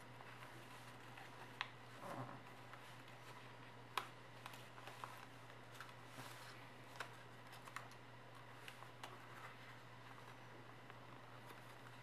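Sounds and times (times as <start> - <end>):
low steady hum: 0.0 - 12.0
paper being folded and creased: 0.2 - 10.5, 11.2 - 12.0.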